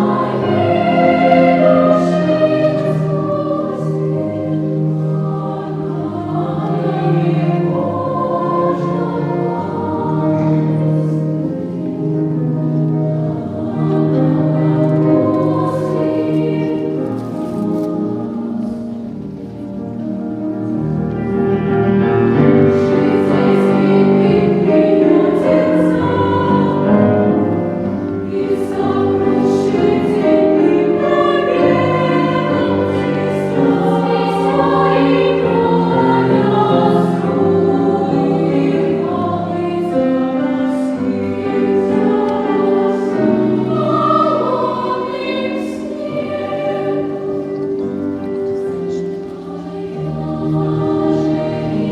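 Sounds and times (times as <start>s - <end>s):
children's choir singing: 0.0s - 51.9s.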